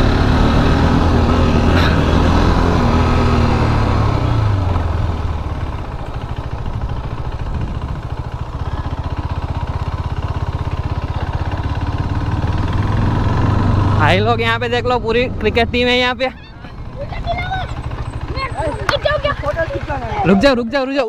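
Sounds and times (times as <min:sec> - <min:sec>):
motorcycle engine idling: 0:01.0 - 0:21.0.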